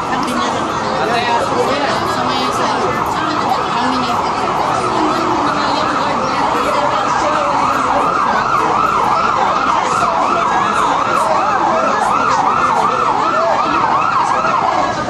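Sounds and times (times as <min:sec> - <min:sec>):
siren yelping: 0:00.0 - 0:15.0.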